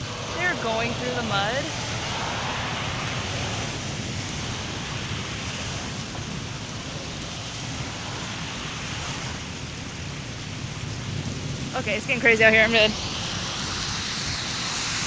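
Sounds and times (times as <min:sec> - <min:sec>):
heavy rain pouring: 0:00.0 - 0:15.0
wind rumbling on microphone: 0:00.0 - 0:15.0.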